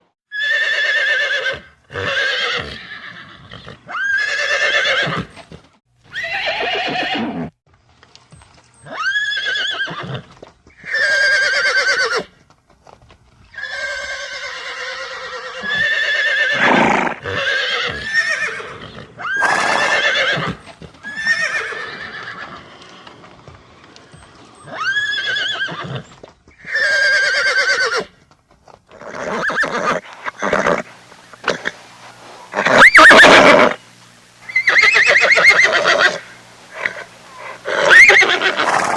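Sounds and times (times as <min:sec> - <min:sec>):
horse whinnying: 0:00.3 - 0:07.6, 0:08.8 - 0:12.3, 0:13.5 - 0:23.1, 0:24.6 - 0:28.2, 0:28.9 - 0:31.8, 0:32.5 - 0:33.8, 0:34.5 - 0:38.9.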